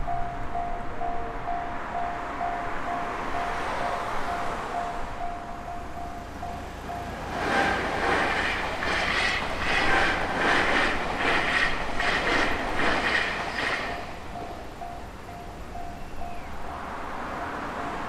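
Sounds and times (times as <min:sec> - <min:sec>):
rhythmic noisy pulsing: 0:00.0 - 0:15.2
railway crossing alarm ringing: 0:00.0 - 0:18.0.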